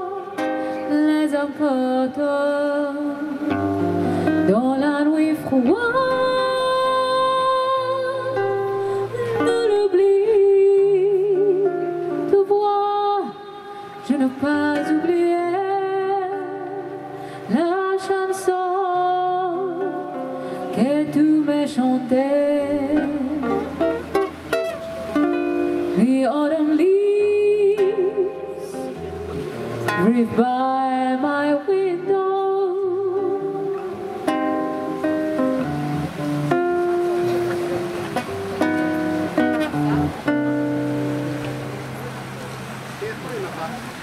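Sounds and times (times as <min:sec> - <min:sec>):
woman singing jazz: 0:00.0 - 0:24.2, 0:25.8 - 0:37.0
small live band: 0:00.0 - 0:44.0.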